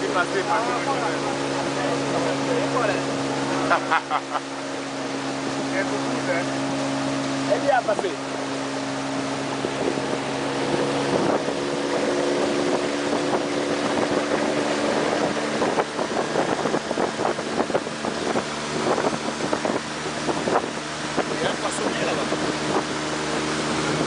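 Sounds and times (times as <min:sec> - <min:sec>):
motorboat engine: 0:00.0 - 0:24.0
rough buffeting noise: 0:00.0 - 0:24.0
water and wind noise: 0:00.0 - 0:24.0.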